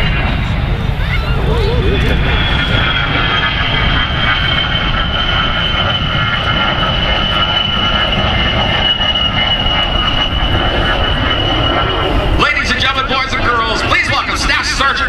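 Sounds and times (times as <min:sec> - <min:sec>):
jet engines rumbling with whine: 0:00.0 - 0:15.0.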